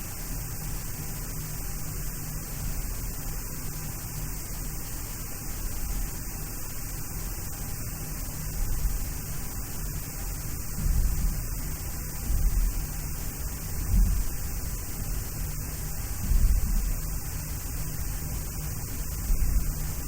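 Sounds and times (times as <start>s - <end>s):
cockpit hum and hiss: 0.0s - 20.0s.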